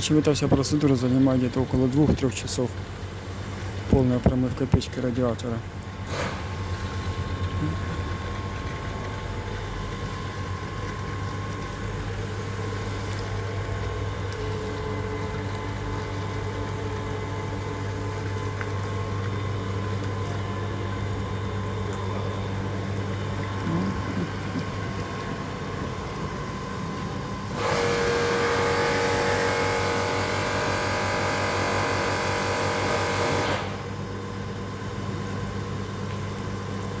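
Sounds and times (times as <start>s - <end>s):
pump humming: 0.0s - 37.0s.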